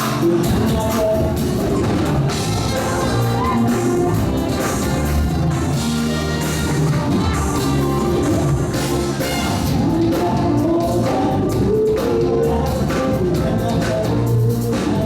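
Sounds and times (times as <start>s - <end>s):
drum kit groove: 0.0s - 15.0s
gospel band music: 0.0s - 15.0s.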